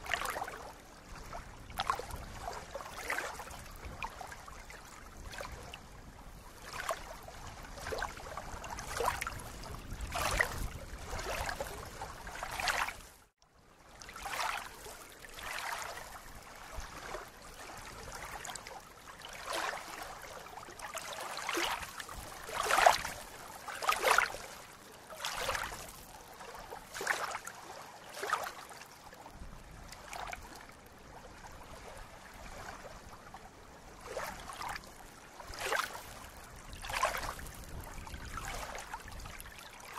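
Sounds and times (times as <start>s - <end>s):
soft water splash: 0.0s - 13.3s, 13.9s - 39.9s
ripples lapping at lake edge: 0.0s - 39.9s.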